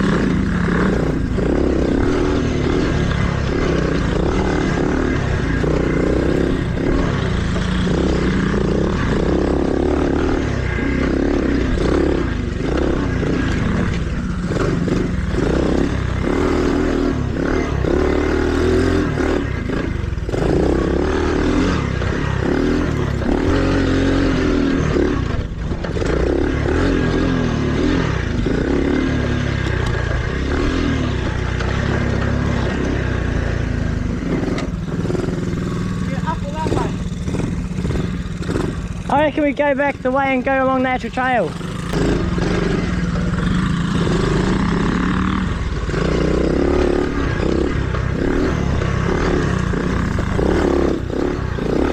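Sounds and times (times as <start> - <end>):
bike rattling over rough ground: 0.0 - 51.9
mini-bike engine revving: 0.0 - 51.9.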